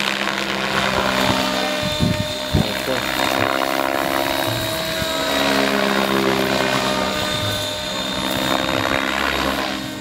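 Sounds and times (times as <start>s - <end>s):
model helicopter buzzing hum: 0.0s - 10.0s.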